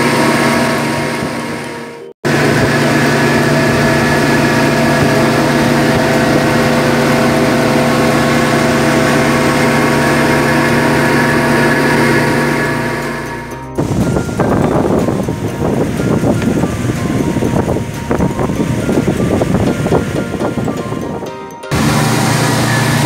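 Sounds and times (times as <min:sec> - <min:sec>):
outboard motor running: 0:00.0 - 0:23.0
wind: 0:00.0 - 0:23.0
water rushing: 0:02.3 - 0:21.0, 0:21.7 - 0:23.0.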